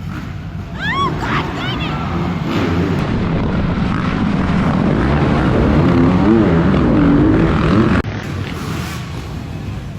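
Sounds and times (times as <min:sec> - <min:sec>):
dirt bike engines revving: 0:00.0 - 0:09.9.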